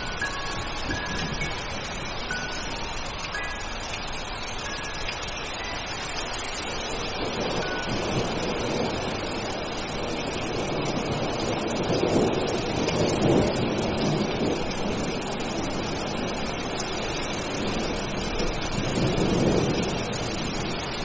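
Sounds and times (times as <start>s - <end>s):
rainstorm rushing: 0.0s - 21.0s.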